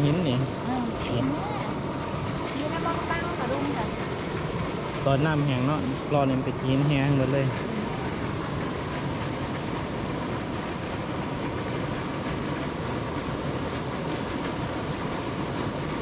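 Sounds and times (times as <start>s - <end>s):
water rushing out of pipe: 0.0s - 16.0s.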